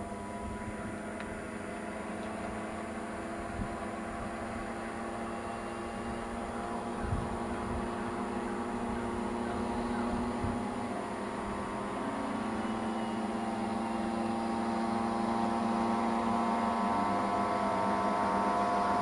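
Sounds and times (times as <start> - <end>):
moped engines buzzing: 0.0 - 19.0.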